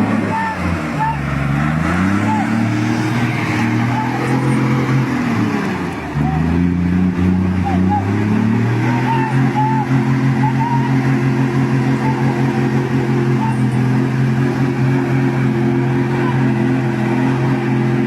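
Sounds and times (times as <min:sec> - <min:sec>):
truck engine running hard: 0:00.0 - 0:18.0.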